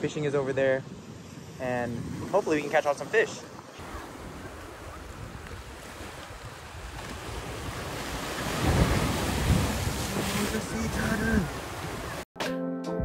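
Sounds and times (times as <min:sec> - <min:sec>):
wind buffeting microphone: 0:00.0 - 0:12.2
ocean surf breaking: 0:00.0 - 0:12.3.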